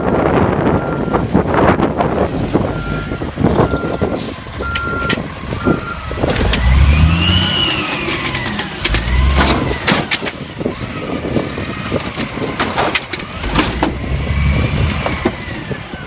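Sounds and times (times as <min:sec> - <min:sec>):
garbage truck diesel engine: 0:00.0 - 0:16.0
wind buffeting microphone: 0:00.0 - 0:16.0.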